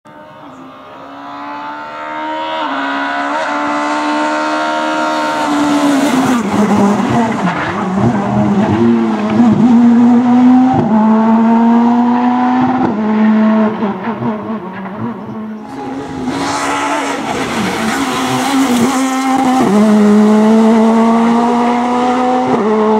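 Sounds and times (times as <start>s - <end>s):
rally car engine at full throttle: 0.1s - 22.9s.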